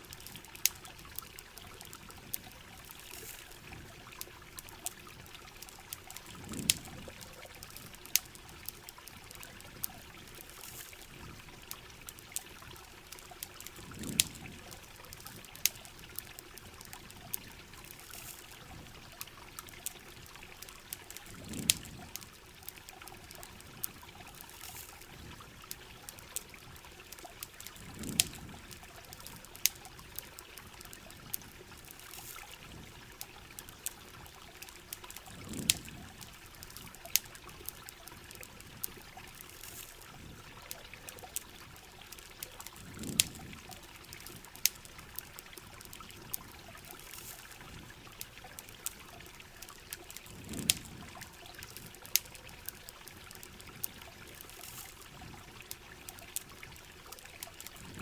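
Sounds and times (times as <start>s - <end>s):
campfire crackling: 0.0s - 58.0s
steady rain: 0.0s - 58.0s
trickling water: 0.0s - 58.0s.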